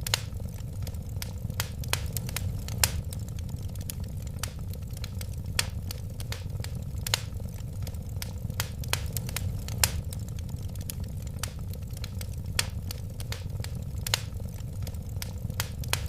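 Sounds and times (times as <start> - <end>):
low rumble of flames: 0.0 - 16.0
wood fire crackles and pops: 0.0 - 16.0.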